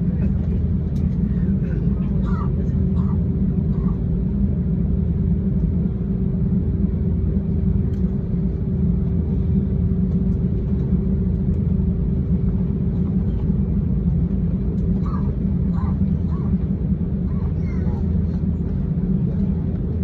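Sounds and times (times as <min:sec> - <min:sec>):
constant hum: 0:00.0 - 0:20.0
low rumble: 0:00.0 - 0:20.0.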